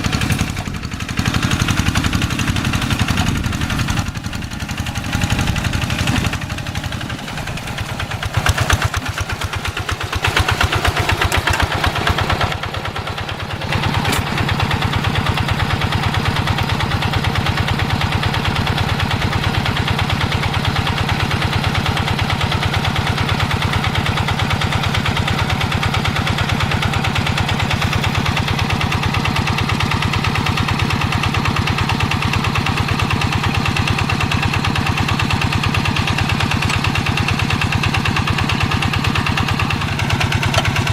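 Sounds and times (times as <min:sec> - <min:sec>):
diesel engine pulsing under load: 0:00.0 - 0:40.9.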